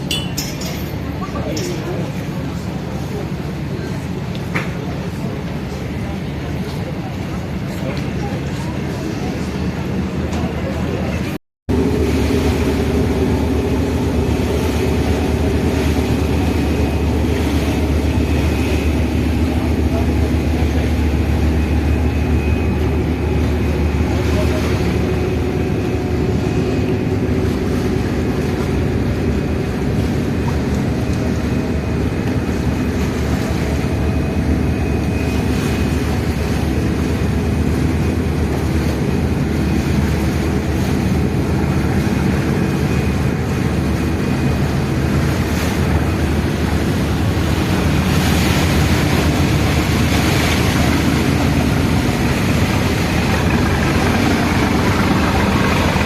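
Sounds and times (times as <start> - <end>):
ferry engine droning: 0.0 - 56.0
water and wind rushing: 0.0 - 56.0.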